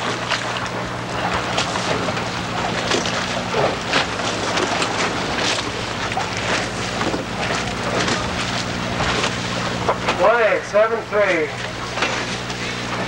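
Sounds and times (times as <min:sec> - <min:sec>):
steady low hum: 0:00.0 - 0:13.0
water washing past hull: 0:00.0 - 0:13.0.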